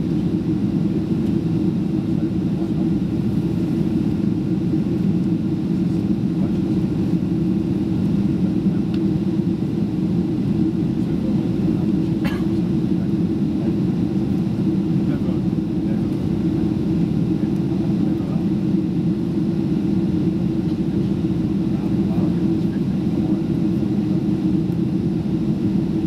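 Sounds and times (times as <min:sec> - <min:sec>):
airplane cabin roar: 0:00.0 - 0:26.0.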